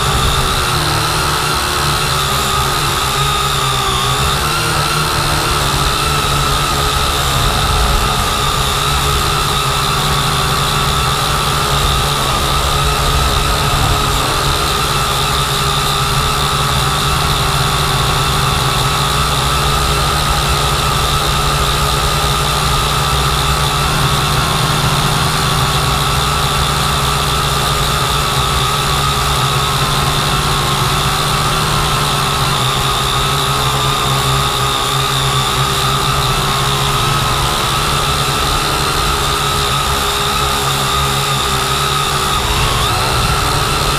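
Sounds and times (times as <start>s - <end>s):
drone propellers whining: 0.0s - 43.9s.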